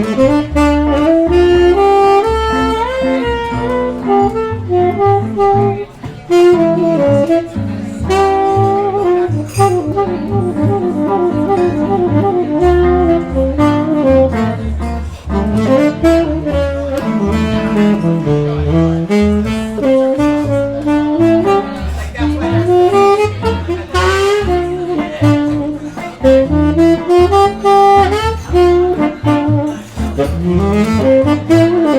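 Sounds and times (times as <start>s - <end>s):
band accompaniment: 0.0s - 31.9s
bass line: 0.0s - 31.9s
jazz saxophone solo: 0.0s - 31.9s.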